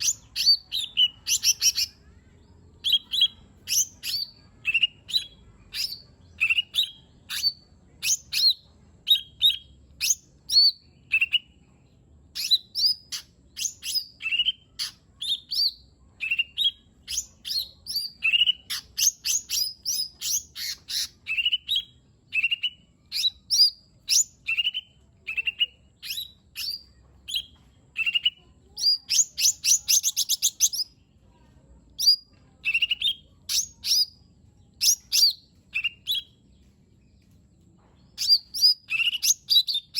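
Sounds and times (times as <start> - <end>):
bird chirping and whistling: 0.0 - 1.9, 2.9 - 11.4, 12.4 - 30.9, 32.0 - 34.1, 34.8 - 36.3, 38.2 - 39.9
bird trill: 0.0 - 2.2, 2.8 - 11.6, 12.4 - 31.0, 31.9 - 34.2, 34.8 - 36.4, 38.1 - 39.9.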